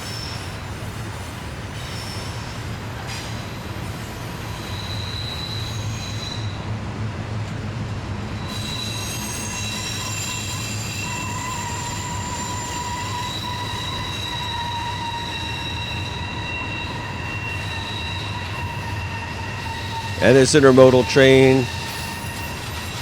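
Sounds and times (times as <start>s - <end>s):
train low rumble: 0.0s - 23.0s
wheel flange squeal: 1.8s - 6.8s, 8.1s - 23.0s.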